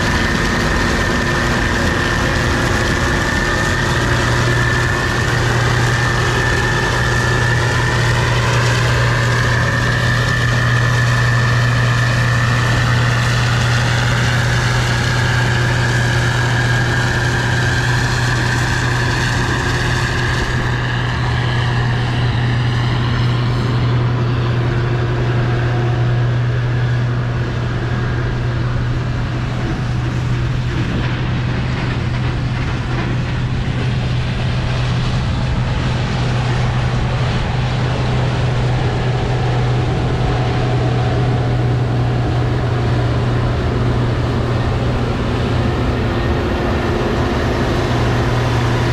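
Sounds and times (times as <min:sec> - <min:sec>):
combine harvester humming: 0:00.0 - 0:48.9.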